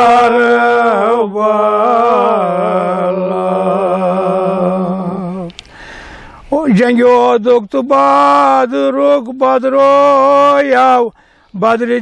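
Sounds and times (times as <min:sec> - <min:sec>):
man chanting unaccompanied: 0:00.0 - 0:05.5, 0:06.5 - 0:12.0.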